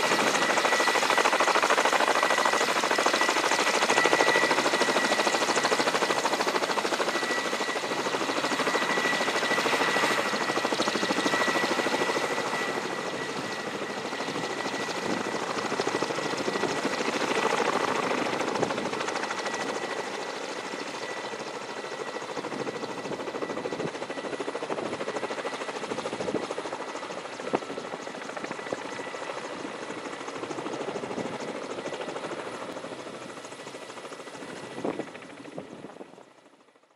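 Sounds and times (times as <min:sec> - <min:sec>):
helicopter rotor and turbine: 0:00.0 - 0:36.9.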